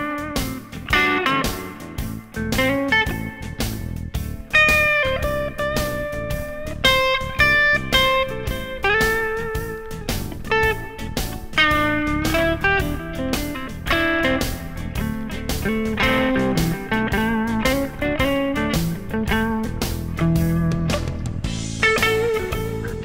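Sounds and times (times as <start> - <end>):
electric guitar playing: 0.0 - 23.0
steady drum beat: 0.0 - 23.0.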